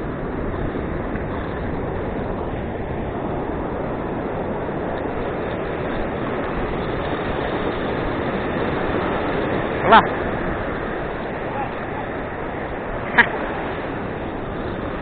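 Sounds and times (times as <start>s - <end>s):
ocean surf on beach: 0.0s - 15.0s
wind on microphone: 0.0s - 15.0s.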